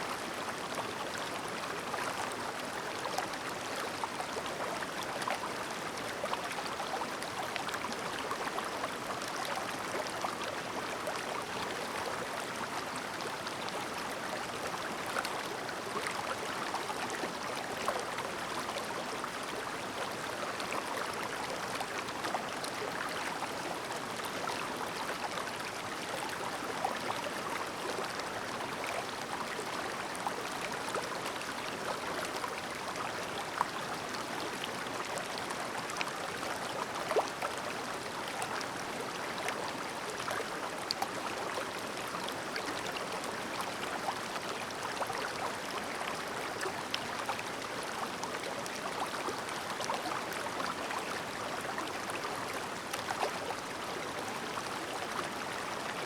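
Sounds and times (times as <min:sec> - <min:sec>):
stream babbling: 0:00.2 - 0:56.0.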